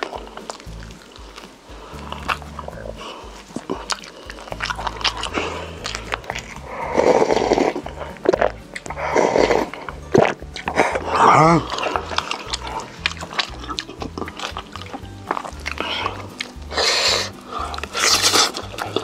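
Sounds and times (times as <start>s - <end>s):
biting and chewing: 0.0s - 19.0s.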